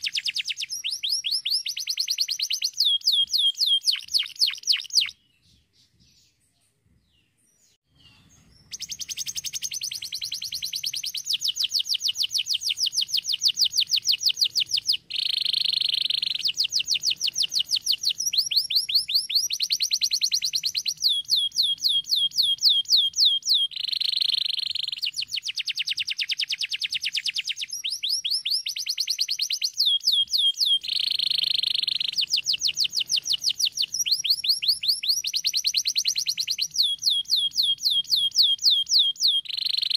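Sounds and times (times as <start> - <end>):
canary singing trills: 0.0 - 6.4, 7.2 - 39.9.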